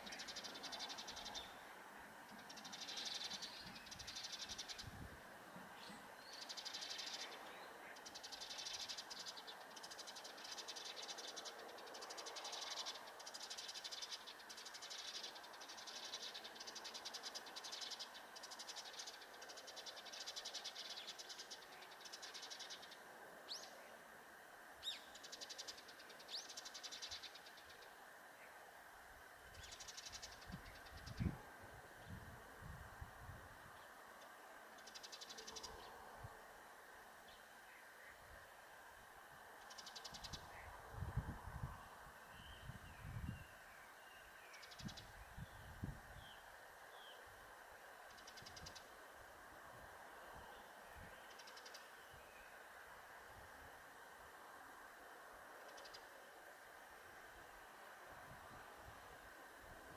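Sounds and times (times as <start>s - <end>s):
insects trilling: 0.0s - 42.8s, 43.5s - 59.9s.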